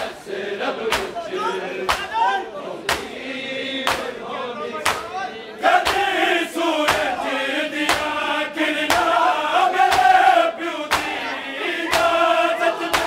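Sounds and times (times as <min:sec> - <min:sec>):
lead reciter voice: 0:00.0 - 0:13.0
people chanting in unison: 0:00.0 - 0:13.0.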